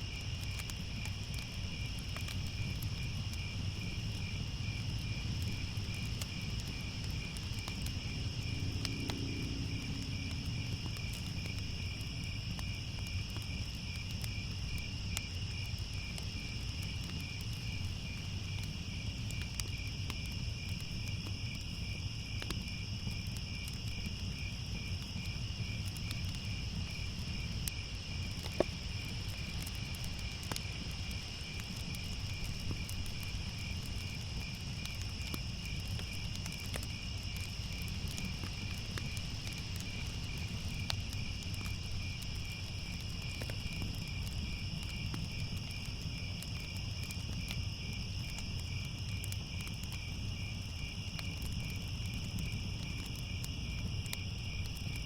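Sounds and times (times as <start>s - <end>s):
crickets chirping: 0.0s - 55.0s
sharp crackles: 4.8s - 50.1s.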